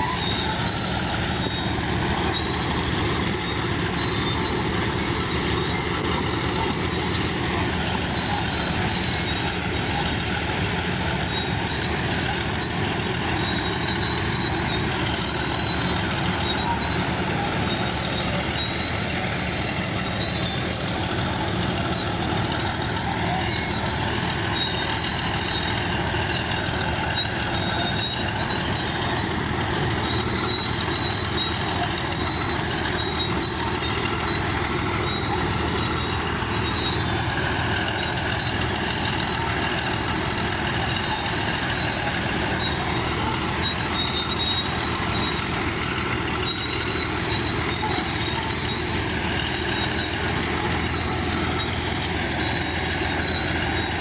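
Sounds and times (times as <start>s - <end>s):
bulldozer diesel engine: 0.0s - 54.0s
steel tracks clanking: 0.0s - 54.0s
thin high squeal: 0.0s - 54.0s.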